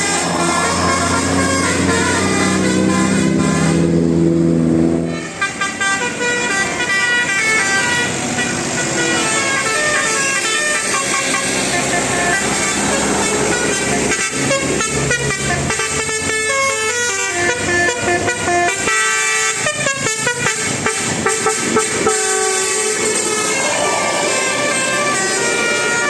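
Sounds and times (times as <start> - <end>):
bus musical horn playing tune: 0.0 - 26.0.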